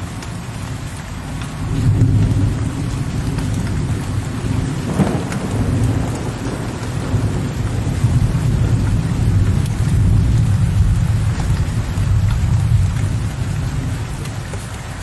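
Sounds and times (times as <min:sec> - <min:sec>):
steady rain: 0:00.0 - 0:15.0
distant thunder rumbling: 0:01.2 - 0:14.7
sharp thunder crackle: 0:01.6 - 0:14.6.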